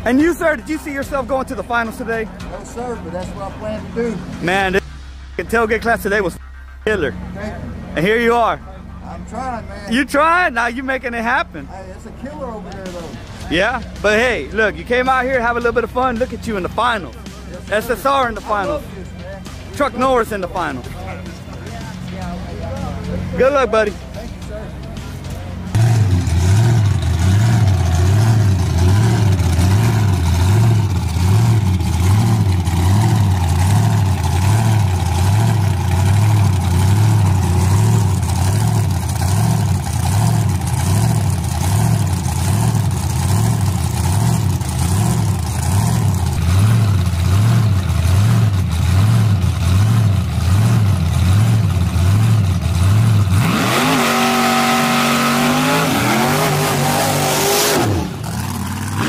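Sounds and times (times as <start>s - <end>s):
engine revving: 0.0s - 59.0s
truck engines idling: 0.0s - 59.0s.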